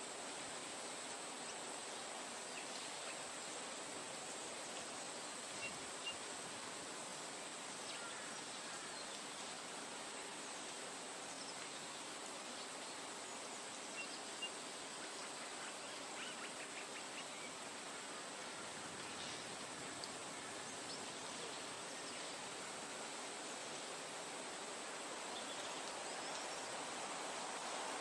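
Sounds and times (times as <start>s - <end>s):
steady soft hiss: 0.0s - 28.0s.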